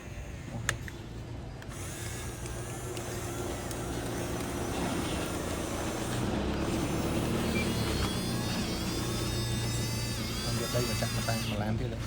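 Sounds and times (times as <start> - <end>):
toy electric motor and gearbox: 0.0 - 12.0
loud gear noise: 1.6 - 12.0.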